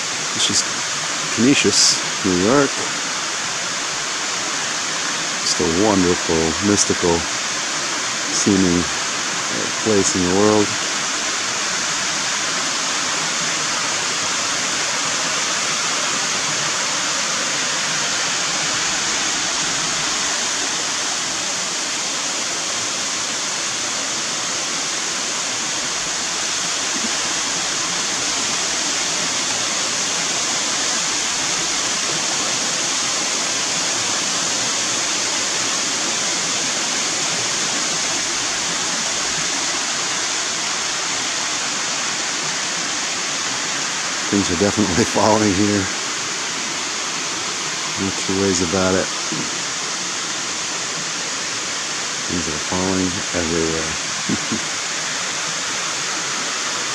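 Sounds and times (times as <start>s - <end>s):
waterfall pouring into pool: 0.0s - 56.9s.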